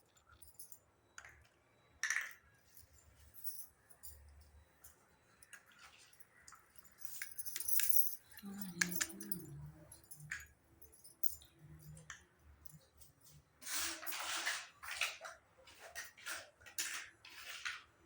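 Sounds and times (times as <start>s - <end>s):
toy kitchen pieces clinking: 2.0s - 18.0s.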